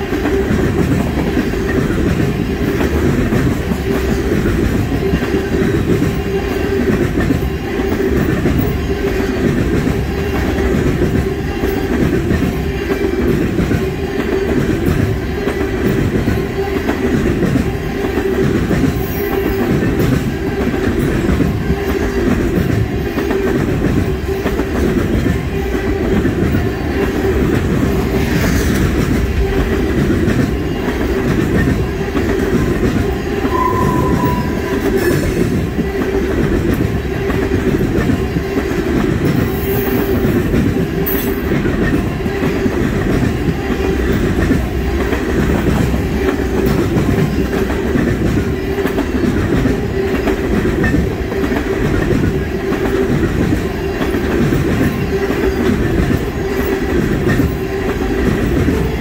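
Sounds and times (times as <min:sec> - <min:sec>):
train low rumble: 0:00.0 - 0:59.0
train wheels clickety-clack: 0:00.0 - 0:59.0.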